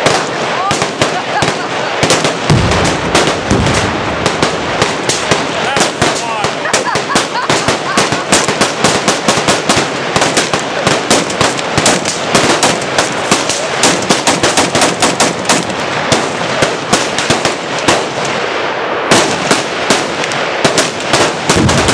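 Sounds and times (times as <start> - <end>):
explosive targets detonating: 0.0 - 21.9
rapid rifle fire: 0.0 - 21.9.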